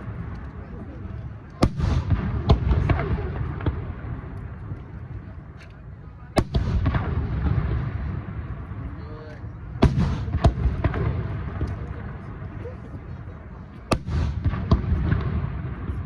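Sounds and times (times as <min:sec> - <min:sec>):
fireworks booming: 0:00.0 - 0:05.6, 0:06.2 - 0:16.0
fireworks crackling: 0:00.0 - 0:16.0.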